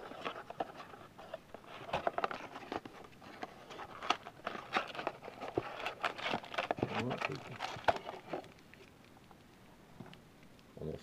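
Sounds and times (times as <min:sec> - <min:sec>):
plastic wrappers crinkling: 0:00.0 - 0:09.6.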